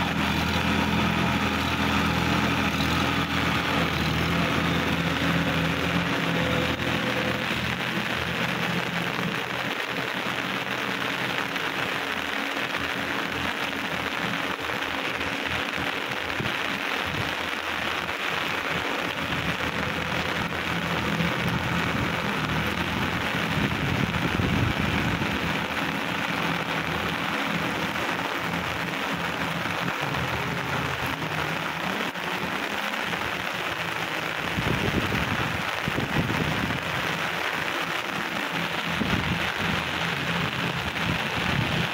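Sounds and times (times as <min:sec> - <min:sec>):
faint diesel tractor engine: 0:00.0 - 0:41.9
heavy rain on standing water: 0:00.0 - 0:41.9.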